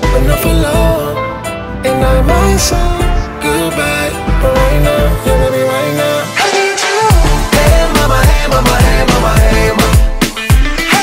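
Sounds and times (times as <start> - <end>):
pop song with bass beat: 0.0 - 11.0.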